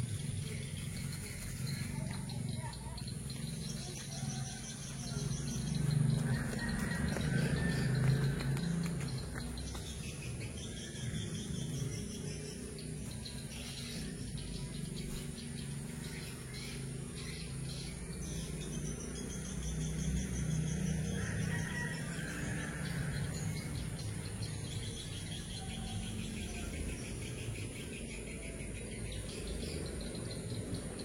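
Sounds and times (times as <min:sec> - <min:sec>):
insects chirping in trills: 0:00.0 - 0:31.0.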